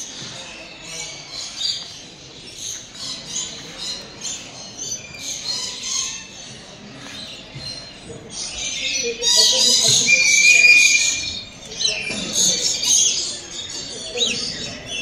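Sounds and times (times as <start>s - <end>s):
flock of birds chirping: 0.0s - 15.0s.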